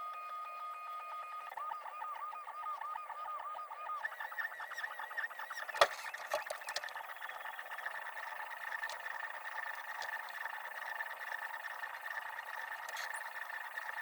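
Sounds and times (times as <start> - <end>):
stepper motors whining: 1.0 - 14.0.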